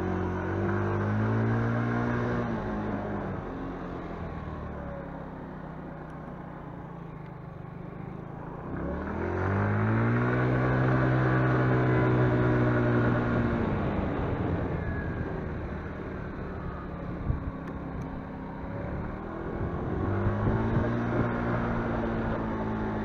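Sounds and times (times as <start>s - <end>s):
motorcycle engine revving: 0.0s - 4.1s, 8.6s - 23.0s.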